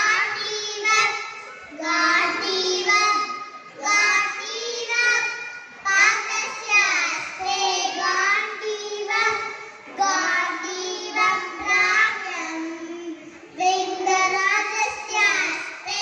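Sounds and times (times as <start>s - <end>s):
child singing into a microphone: 0.0s - 16.0s.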